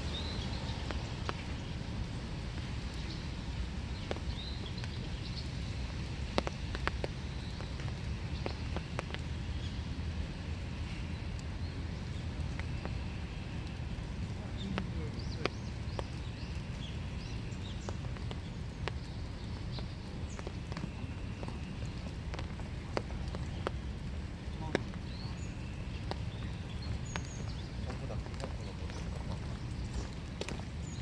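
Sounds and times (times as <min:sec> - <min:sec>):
rain hissing: 0:00.0 - 0:31.0
raindrops tapping: 0:00.0 - 0:31.0.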